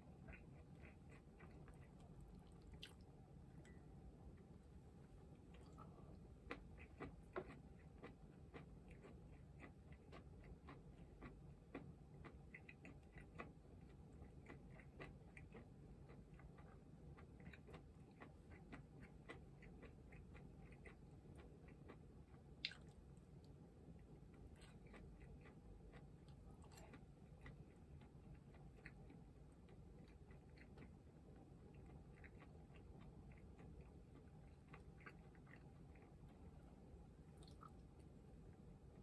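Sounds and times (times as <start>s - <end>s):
close-up chewing of food: 0.0s - 39.0s.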